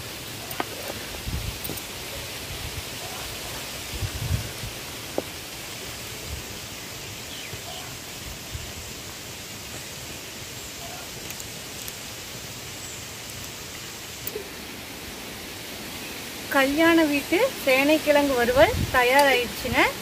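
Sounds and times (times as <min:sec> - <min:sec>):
food hissing in a pot: 0:00.0 - 0:20.0.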